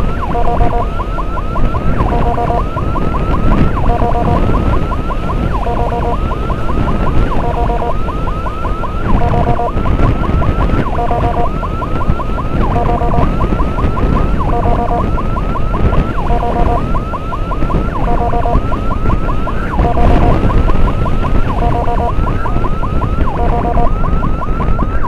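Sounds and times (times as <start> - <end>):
electronic emergency siren: 0.0 - 25.0
motorcycle engine rumble: 0.0 - 25.0
wind on microphone: 0.0 - 25.0.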